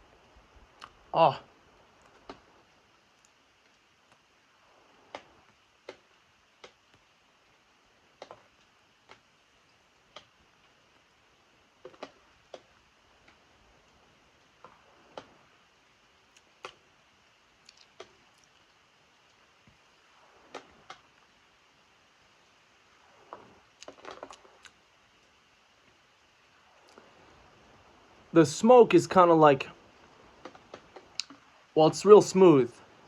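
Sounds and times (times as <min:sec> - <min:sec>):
faint hiss of rain: 0:00.0 - 0:33.0.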